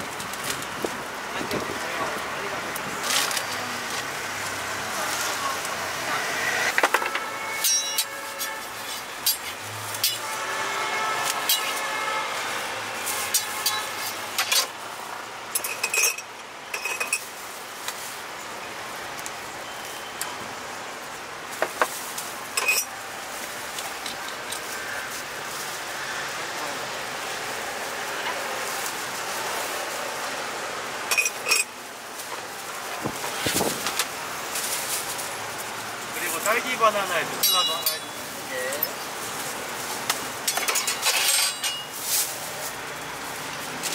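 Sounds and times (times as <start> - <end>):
street traffic: 0.0 - 43.9.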